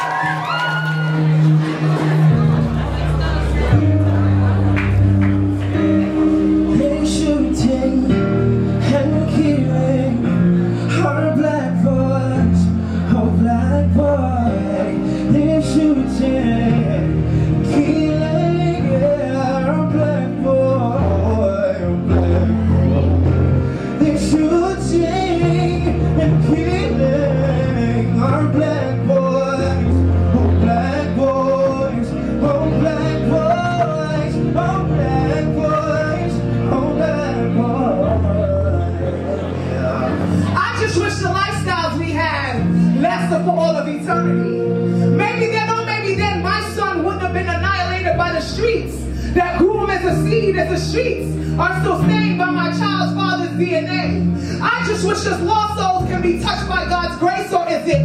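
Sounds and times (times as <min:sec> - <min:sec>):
held keyboard chords: 0:00.0 - 0:58.0
low bass notes: 0:01.1 - 0:58.0
man singing: 0:06.3 - 0:58.0.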